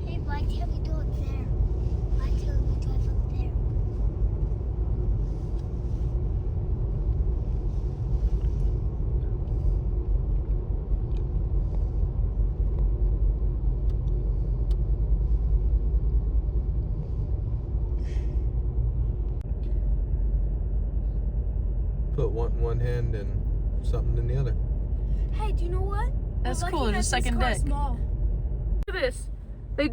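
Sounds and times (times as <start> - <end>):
vehicle rumble inside car: 0.0 - 29.9.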